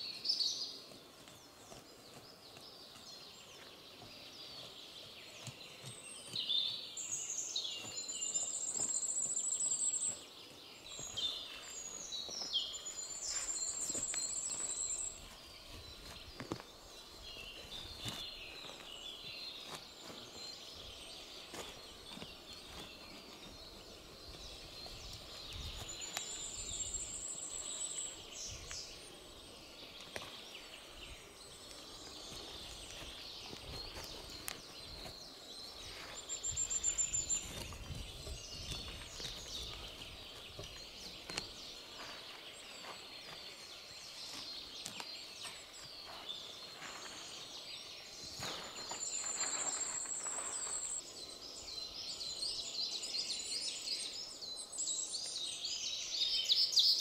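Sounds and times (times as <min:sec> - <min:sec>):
birds singing: 0:00.0 - 0:57.0
scraping and rustling of moss: 0:00.7 - 0:30.6, 0:31.4 - 0:51.2.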